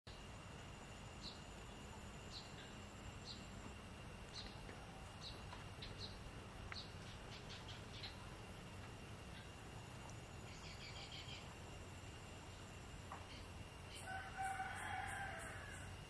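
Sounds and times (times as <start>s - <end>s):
steady hiss: 0.1s - 16.0s.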